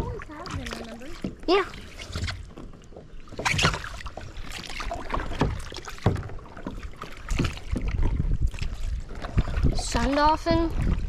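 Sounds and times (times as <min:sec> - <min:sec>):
paddle strokes splashing water: 0:00.0 - 0:11.0.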